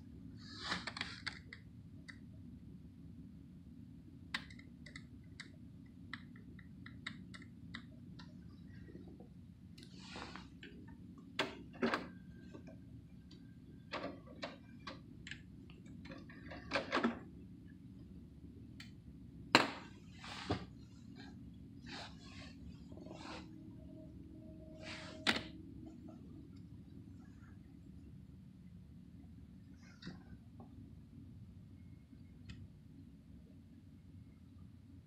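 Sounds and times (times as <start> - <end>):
computer fans humming: 0.0 - 35.0.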